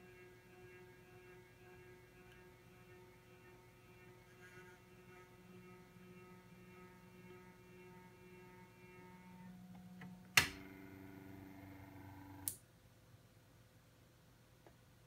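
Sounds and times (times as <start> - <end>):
stepper motor whining: 0.0 - 12.5.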